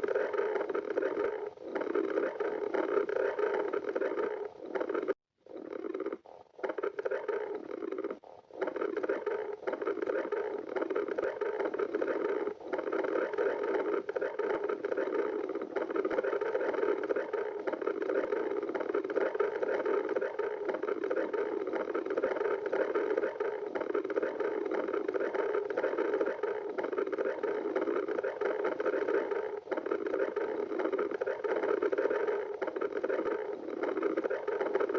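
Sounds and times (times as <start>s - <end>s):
stomach growling: 0.0s - 34.9s.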